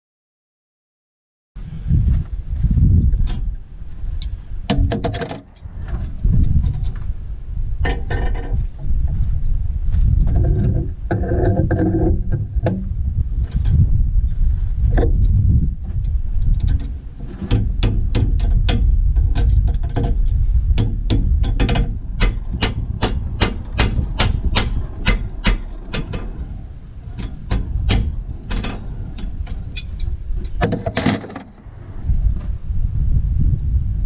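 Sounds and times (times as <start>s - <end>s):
wind rumbling on microphone: 1.6s - 34.0s.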